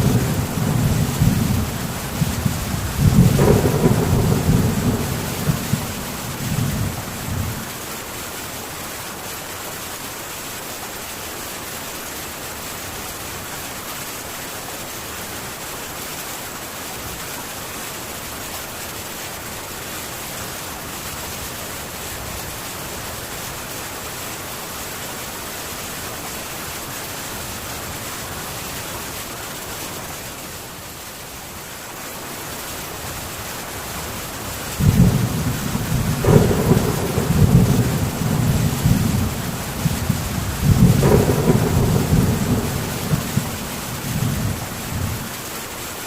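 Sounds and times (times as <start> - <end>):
heavy rain on a tin roof: 0.0 - 46.0.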